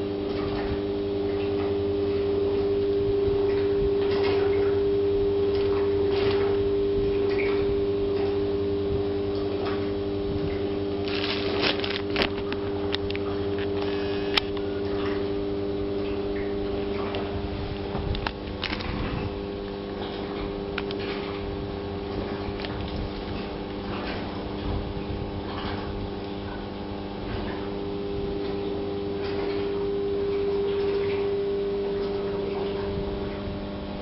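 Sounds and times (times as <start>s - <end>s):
machinery hum: 0.0s - 34.0s.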